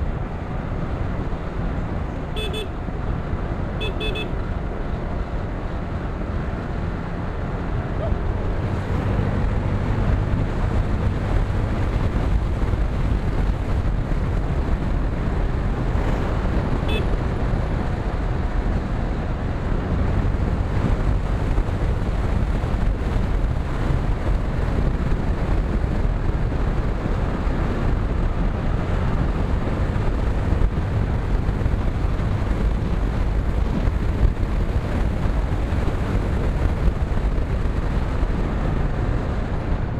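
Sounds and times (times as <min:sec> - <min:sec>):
motorcycle engine drone: 0:00.0 - 0:39.9
wind rush on microphone: 0:04.4 - 0:39.9.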